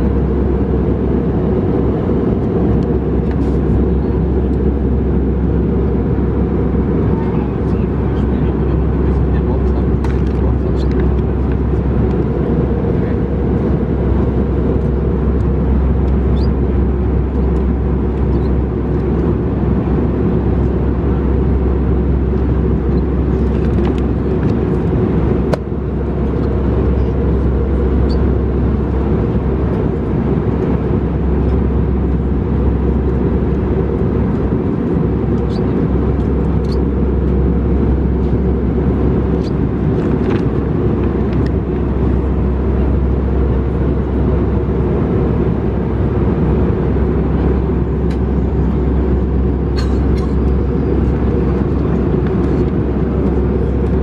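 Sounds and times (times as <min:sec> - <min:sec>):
aircraft cabin drone: 0:00.0 - 0:54.0.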